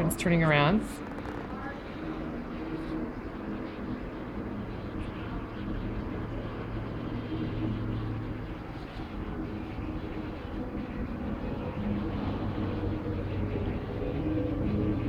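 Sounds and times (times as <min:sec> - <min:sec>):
low mechanical hum and rumble: 0:00.0 - 0:15.0.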